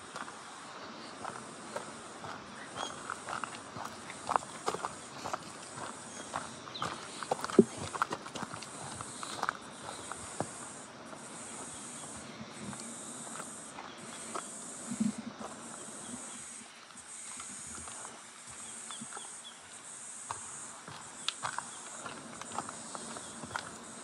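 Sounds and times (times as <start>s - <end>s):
footsteps on forest trail: 0.0s - 24.0s
shrill insect chorus pulsing: 0.0s - 24.0s.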